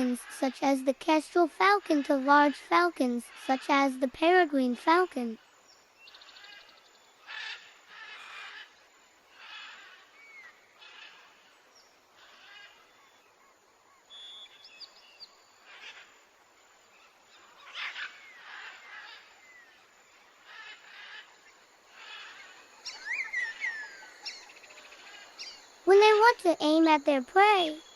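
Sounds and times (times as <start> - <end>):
birds chirping: 0.0 - 13.4, 16.7 - 27.9.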